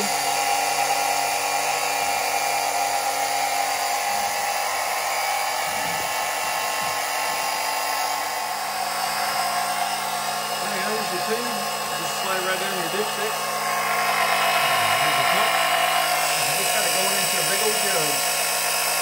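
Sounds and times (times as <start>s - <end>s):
electric pump whining: 0.0s - 19.0s.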